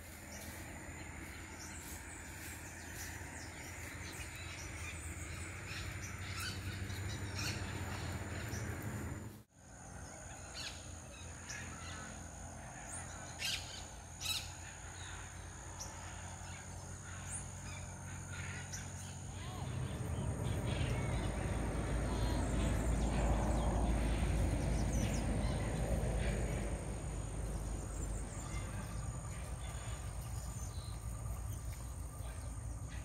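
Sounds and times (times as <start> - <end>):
birds chirping and calling: 0.2 - 9.2, 10.6 - 33.0.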